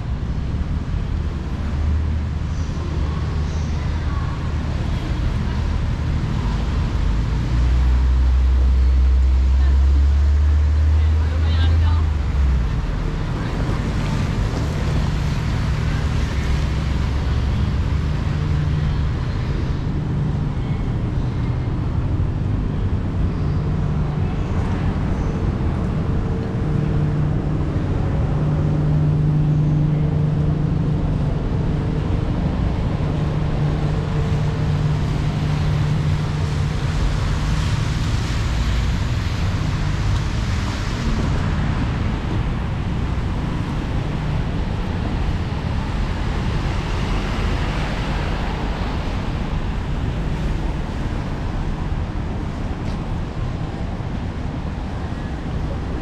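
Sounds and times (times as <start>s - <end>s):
road traffic hum: 0.0s - 56.0s.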